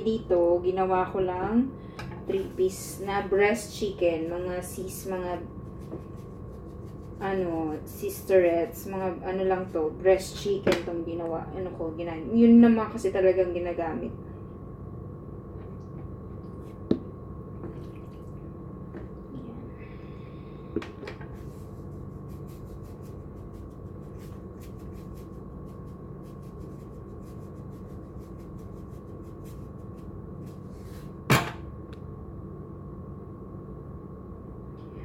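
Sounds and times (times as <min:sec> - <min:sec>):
steady hum: 0:00.0 - 0:35.0.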